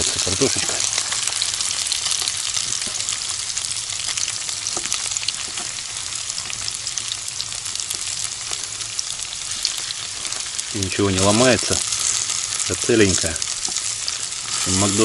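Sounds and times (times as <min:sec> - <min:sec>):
potatoes sizzling in fat: 0:00.0 - 0:15.0.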